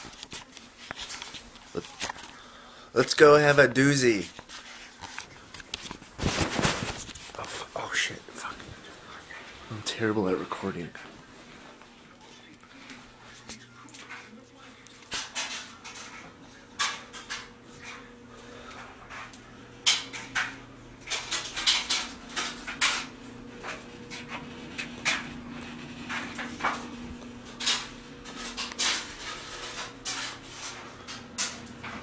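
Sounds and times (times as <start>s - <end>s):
steady low hum: 6.2s - 32.0s.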